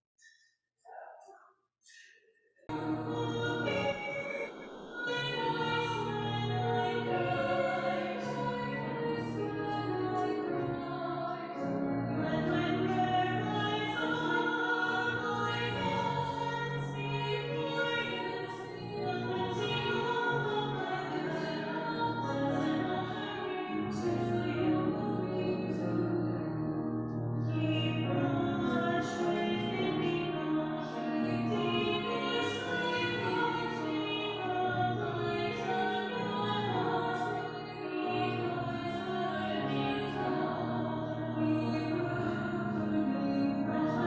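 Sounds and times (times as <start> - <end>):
women singing together: 2.7 - 26.2, 27.6 - 44.0
grand piano: 2.7 - 44.0.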